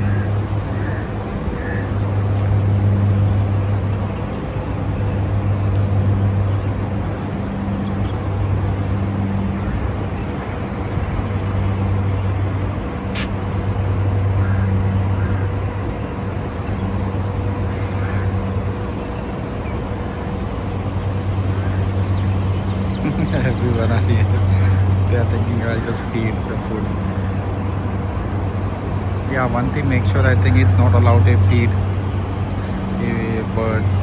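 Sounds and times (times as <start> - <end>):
low mechanical hum: 0.0 - 34.0
outdoor background noise: 0.0 - 34.0.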